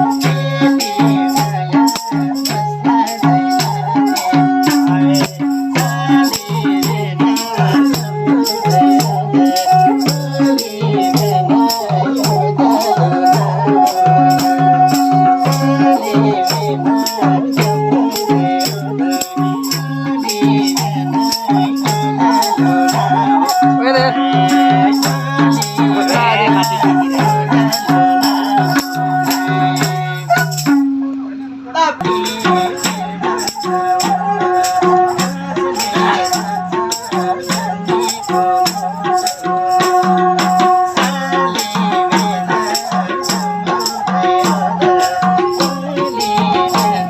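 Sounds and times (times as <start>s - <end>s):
madal drum rhythm: 0.0s - 31.1s, 32.0s - 47.0s
sarangi melody: 0.0s - 47.0s.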